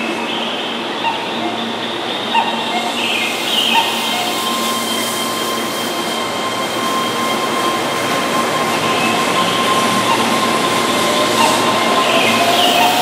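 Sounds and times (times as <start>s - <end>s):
train wheels rumbling: 0.0s - 13.0s
electric train motor whine: 0.6s - 13.0s.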